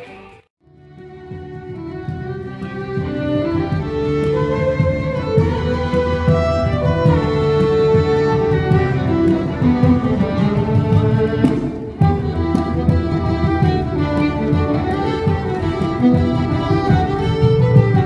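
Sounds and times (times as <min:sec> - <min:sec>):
fiddles playing a folk tune: 0:00.7 - 0:18.0
guitar accompaniment: 0:00.7 - 0:18.0
dancer's step taps: 0:01.0 - 0:18.0.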